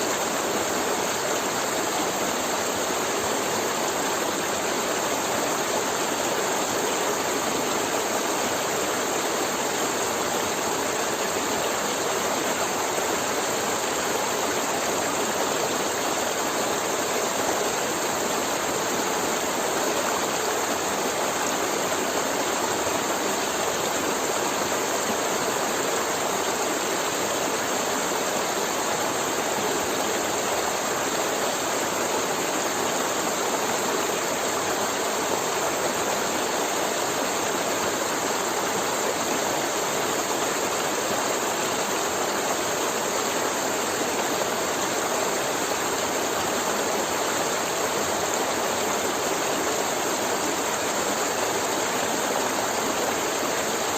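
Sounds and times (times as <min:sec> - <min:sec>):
river water flowing over rocks: 0:00.0 - 0:53.9.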